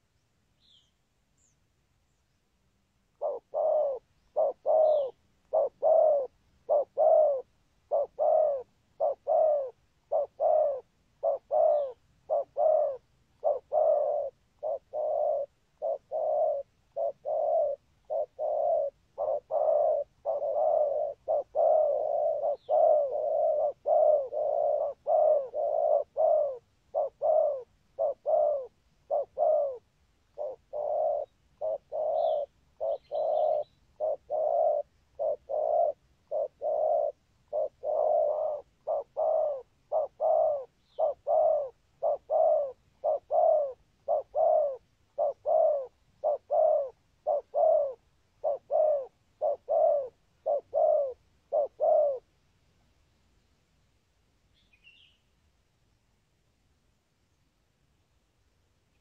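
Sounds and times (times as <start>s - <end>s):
small birds chirping: 0.0s - 2.5s, 3.2s - 52.2s, 54.5s - 55.3s
dove cooing: 3.1s - 52.3s.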